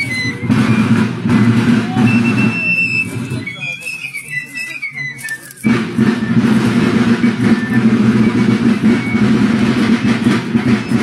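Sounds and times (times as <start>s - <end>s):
marching drums beating: 0.0s - 3.9s, 5.7s - 11.0s
fife tune: 0.0s - 11.0s.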